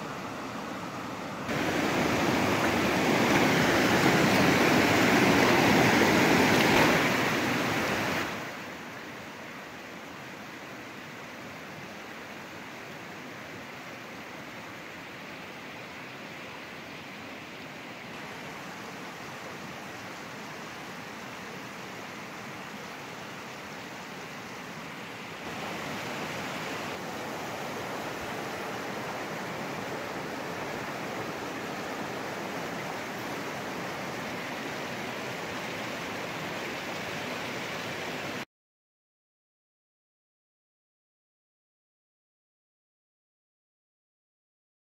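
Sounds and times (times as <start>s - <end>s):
river rushing over rocks: 0.0s - 38.4s.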